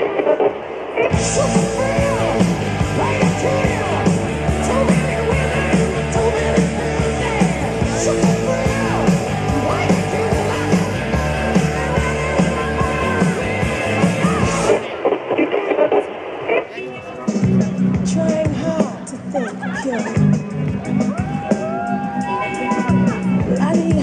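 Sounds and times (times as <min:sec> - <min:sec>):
loud rock music with singing: 0:00.0 - 0:24.0.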